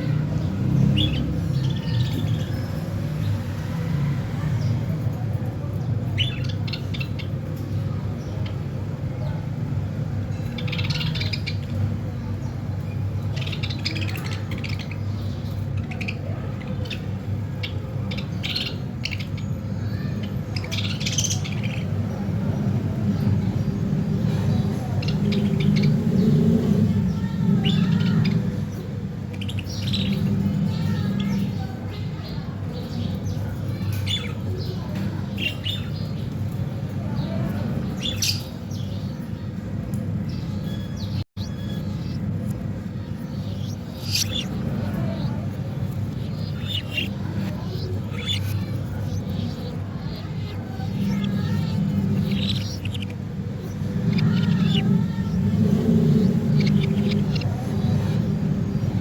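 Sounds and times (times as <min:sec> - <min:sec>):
budgerigars chirping: 0:00.0 - 0:03.6, 0:04.7 - 0:09.4, 0:10.1 - 0:59.0
steady low rumble: 0:05.9 - 0:59.0.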